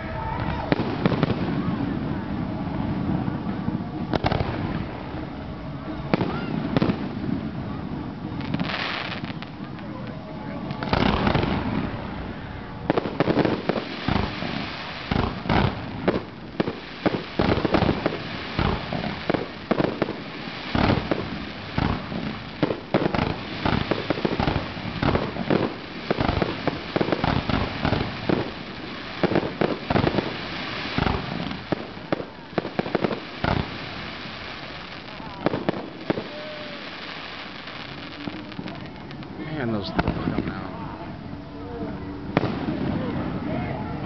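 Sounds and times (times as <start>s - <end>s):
fireworks booming and popping: 0.0s - 40.8s, 42.3s - 43.7s
fireworks crackle and hiss: 0.0s - 43.8s.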